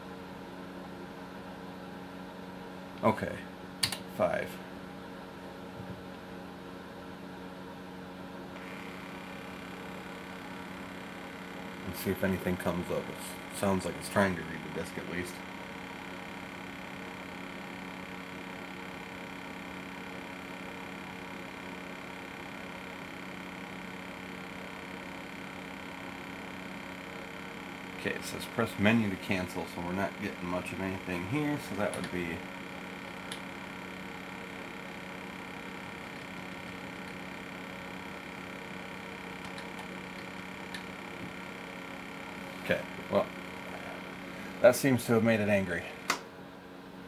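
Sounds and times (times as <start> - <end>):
electrical hum and whir: 0.0 - 47.0
floppy drive reading: 8.5 - 47.0.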